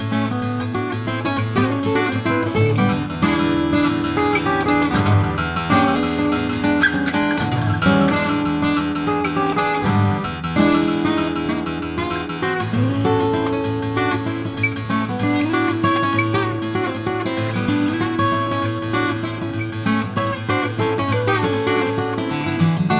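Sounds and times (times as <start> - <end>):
acoustic guitar instrumental music: 0.0 - 22.9.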